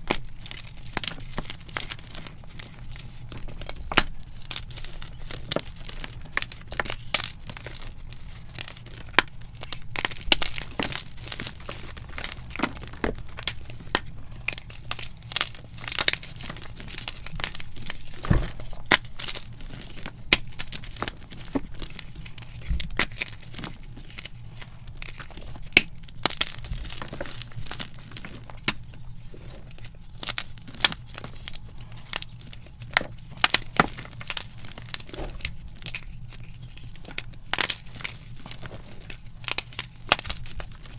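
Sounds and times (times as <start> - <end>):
chalk blocks cracking and crunching: 0.0 - 40.9
faint low hum: 0.0 - 40.9.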